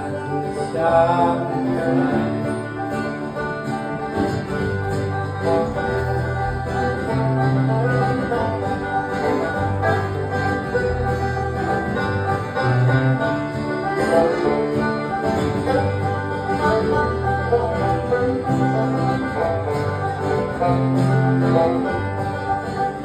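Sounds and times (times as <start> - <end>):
acoustic guitar: 0.0 - 23.0
banjo: 0.0 - 23.0.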